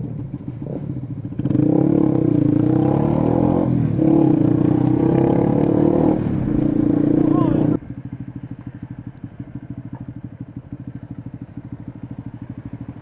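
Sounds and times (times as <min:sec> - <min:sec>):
motorcycle engine under throttle: 0:00.0 - 0:13.0.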